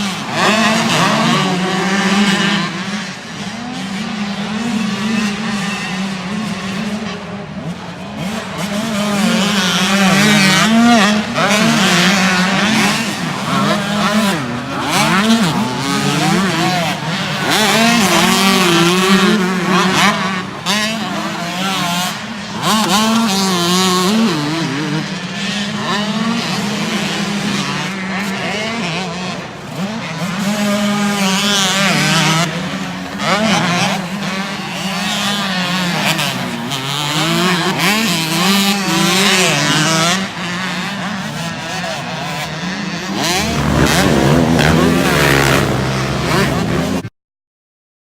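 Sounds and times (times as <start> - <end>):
dirt bike engines revving: 0.0 - 47.1.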